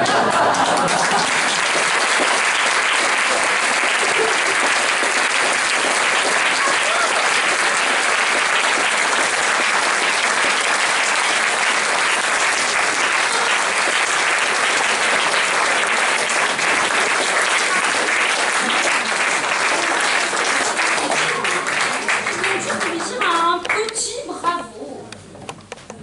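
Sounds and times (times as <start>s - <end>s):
audience applauding: 0.0s - 23.8s.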